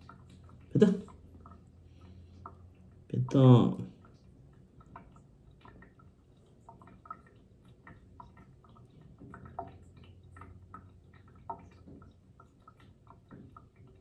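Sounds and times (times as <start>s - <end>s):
water dripping: 0.0s - 14.0s.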